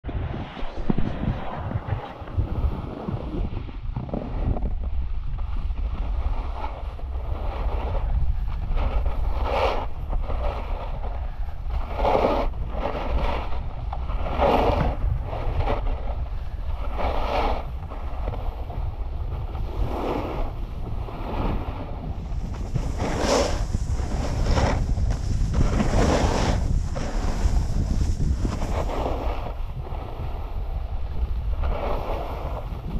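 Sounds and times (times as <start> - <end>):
wind rumble on microphone: 0.0 - 32.9
snowboard edges scraping snow: 0.1 - 32.9.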